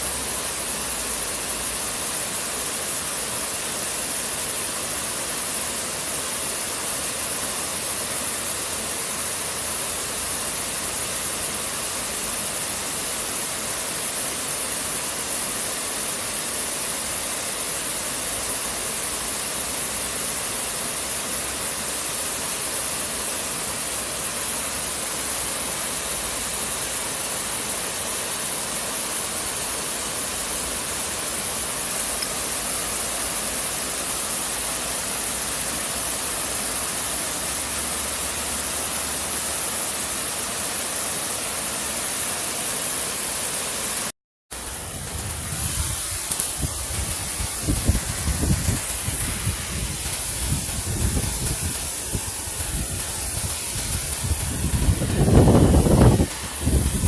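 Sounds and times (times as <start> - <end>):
steady noise: 0.0 - 57.0.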